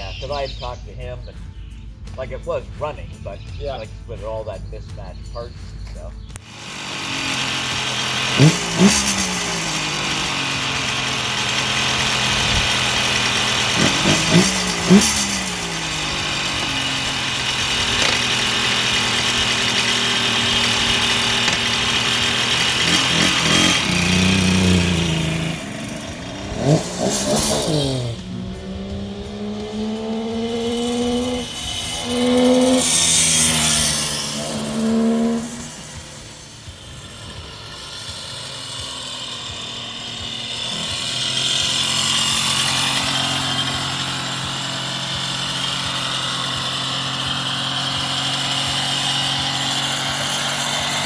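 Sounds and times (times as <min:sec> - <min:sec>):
motorcycle engine idling and revving: 0:00.0 - 0:51.0.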